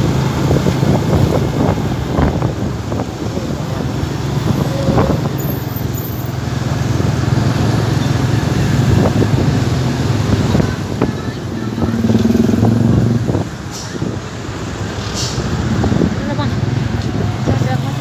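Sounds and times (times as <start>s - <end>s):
road noise: 0.0s - 18.0s
traffic engine drone: 0.0s - 18.0s.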